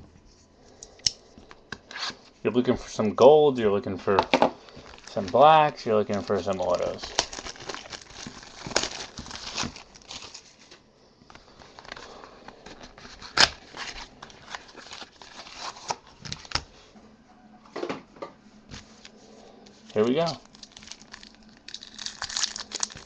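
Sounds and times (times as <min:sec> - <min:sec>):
card packs rustling and crinkling: 0:02.6 - 0:16.9, 0:18.7 - 0:23.0.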